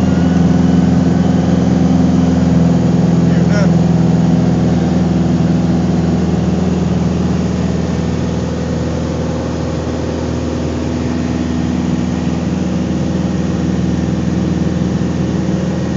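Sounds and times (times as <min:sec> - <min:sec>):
propeller plane engine droning: 0:00.0 - 0:15.9.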